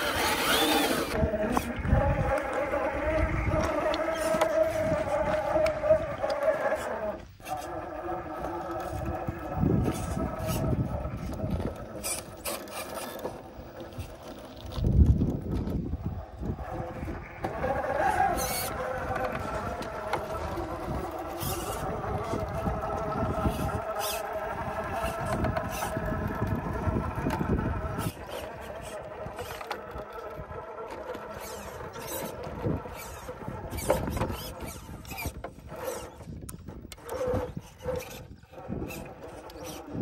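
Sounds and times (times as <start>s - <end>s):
rc car motor whining: 0.0s - 40.0s.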